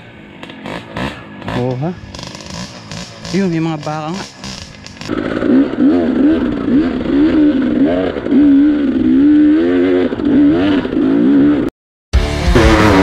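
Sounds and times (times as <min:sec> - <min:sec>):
dirt bike engine revving: 0:00.3 - 0:13.0.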